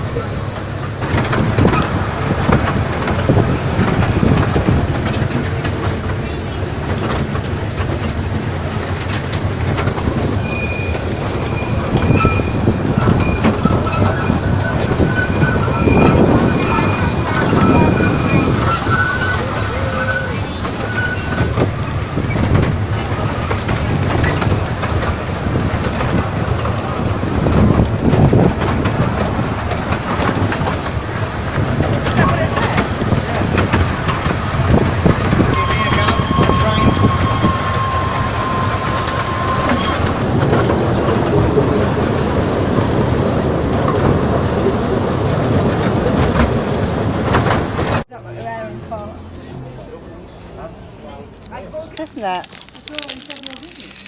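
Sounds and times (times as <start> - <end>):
wheels clattering on rails: 0.0 - 50.4, 51.1 - 54.0
train rumbling on track: 0.0 - 54.0.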